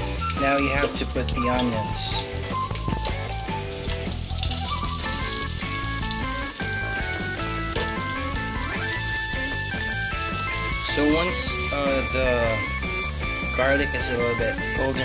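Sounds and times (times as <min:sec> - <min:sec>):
background music of held notes: 0:00.0 - 0:15.0
food sizzling in hot oil: 0:00.0 - 0:15.0.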